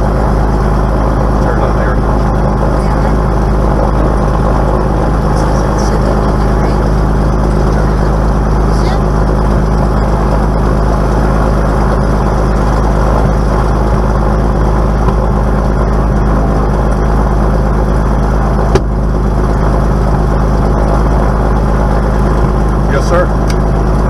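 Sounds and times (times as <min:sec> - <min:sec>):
aircraft engine and propeller: 0:00.0 - 0:24.0.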